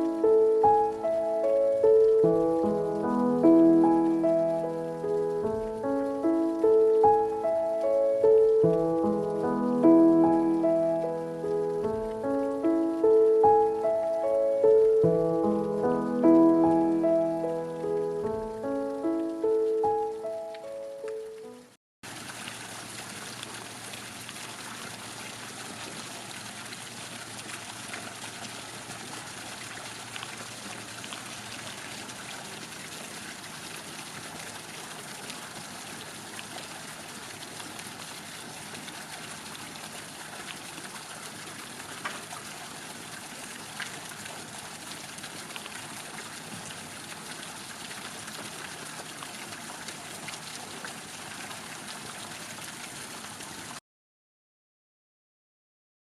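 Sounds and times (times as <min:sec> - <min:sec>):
running water rushing: 0:00.0 - 0:53.8.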